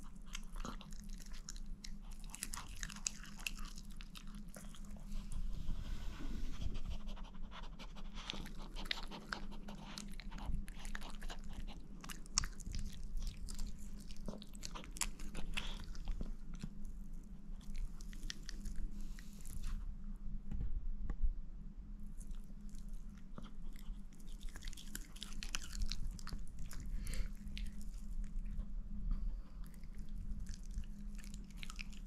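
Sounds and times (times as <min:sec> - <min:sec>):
dog chewing and crunching: 0:00.0 - 0:05.5, 0:06.5 - 0:19.8, 0:22.1 - 0:28.7, 0:29.4 - 0:32.0
steady low hum: 0:00.0 - 0:32.0.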